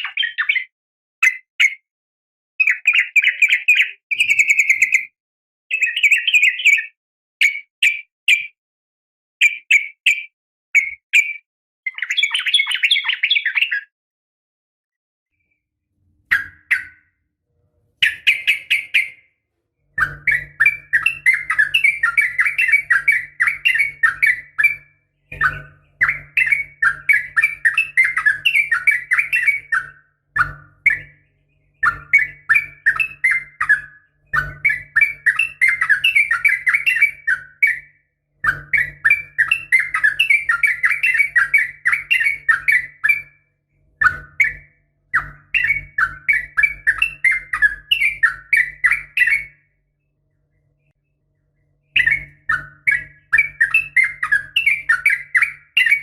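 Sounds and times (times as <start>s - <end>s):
bird chattering song: 0.0s - 1.9s, 2.6s - 8.6s, 9.4s - 13.9s, 16.2s - 17.2s, 18.0s - 43.4s, 44.0s - 56.0s.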